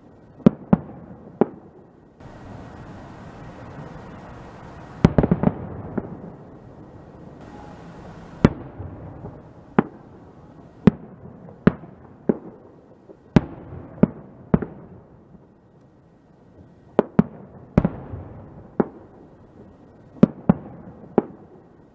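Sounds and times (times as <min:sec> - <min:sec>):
fireworks bursting: 0:00.0 - 0:21.9.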